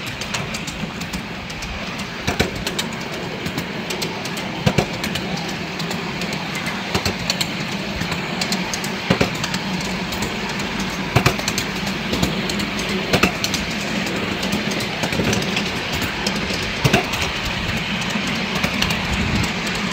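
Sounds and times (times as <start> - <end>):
train wheels rumbling on rails: 0.0 - 19.9
wheels clicking over rail joints: 0.0 - 19.9.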